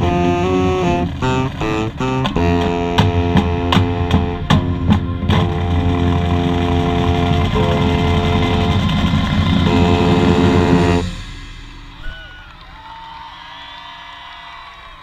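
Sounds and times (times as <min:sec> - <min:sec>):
marching band brass chords: 0:00.0 - 0:13.3
sharp percussion hits: 0:00.0 - 0:14.3.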